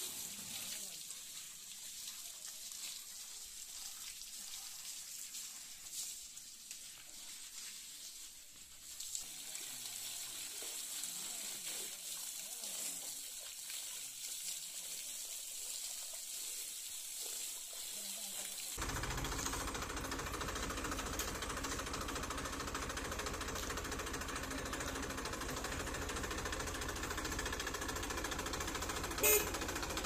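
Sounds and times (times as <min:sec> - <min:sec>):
water spraying hiss: 0:00.0 - 0:30.0.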